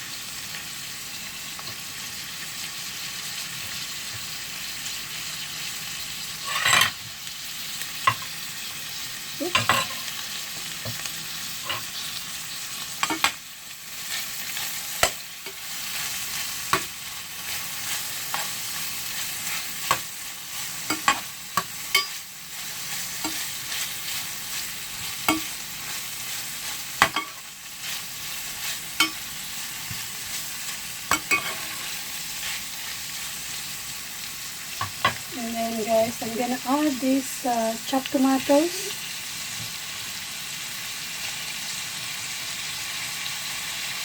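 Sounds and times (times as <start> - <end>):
food sizzling in a frying pan: 0.0 - 44.0.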